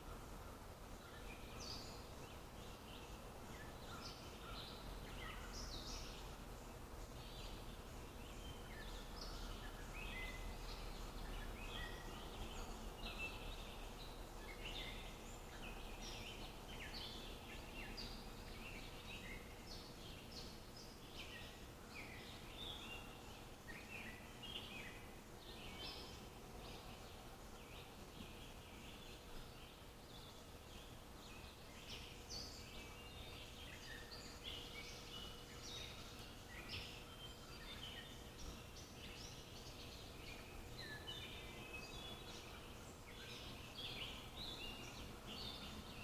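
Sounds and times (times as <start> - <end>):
faint steady hum: 0.0 - 46.0
songbirds chirping and trilling: 0.0 - 46.0.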